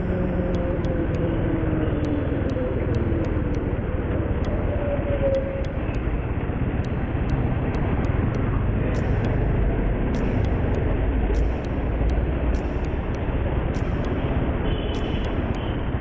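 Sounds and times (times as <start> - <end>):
motorcycle engine drone: 0.0 - 16.0.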